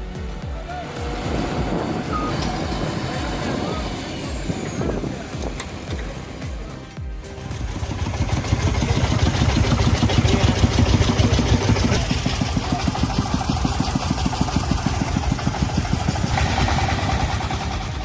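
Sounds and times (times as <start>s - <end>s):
vehicle engine chugging: 0.0s - 18.0s.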